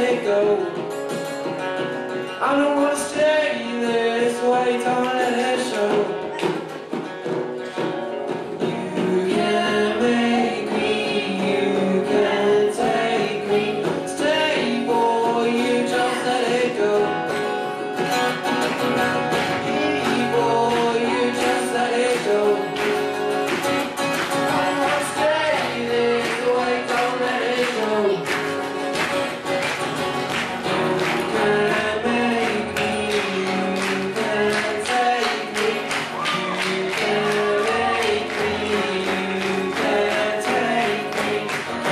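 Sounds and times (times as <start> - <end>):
young man singing: 0.0 - 1.3, 2.1 - 6.7, 8.6 - 18.0, 19.4 - 23.2, 24.3 - 28.4, 31.2 - 41.9
acoustic guitars strummed: 0.0 - 41.9.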